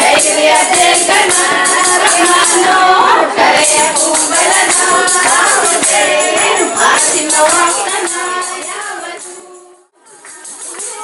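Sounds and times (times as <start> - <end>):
jingling percussion: 0.0 - 2.8, 3.4 - 11.0
women singing into microphones: 0.0 - 11.0.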